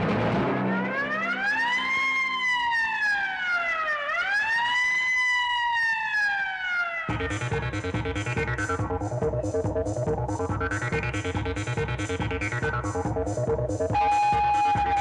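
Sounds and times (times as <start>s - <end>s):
siren-like wailing tone: 0.4s - 13.2s, 13.9s - 15.0s.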